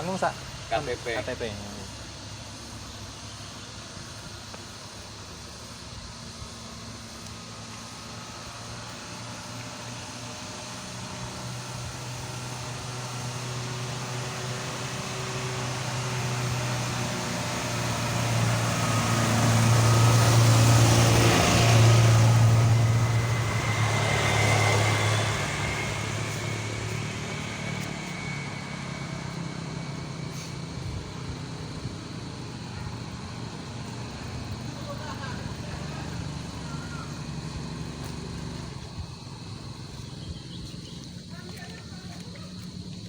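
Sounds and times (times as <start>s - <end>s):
rush of passing vehicle: 0.0s - 43.0s
vehicle engine hum: 0.0s - 43.0s.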